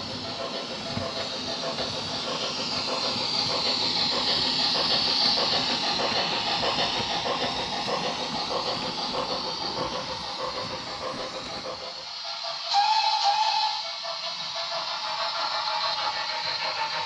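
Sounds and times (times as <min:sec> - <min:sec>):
model train rumbling past: 0:00.0 - 0:17.0.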